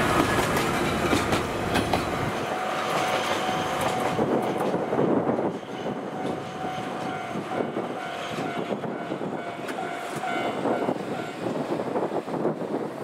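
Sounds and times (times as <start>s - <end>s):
locomotive engine and wheel clatter: 0.0s - 13.0s.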